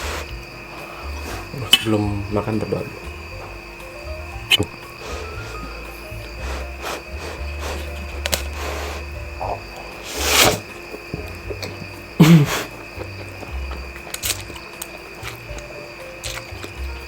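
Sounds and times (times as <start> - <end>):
slurping noodles: 0.0 - 2.6, 4.5 - 17.0.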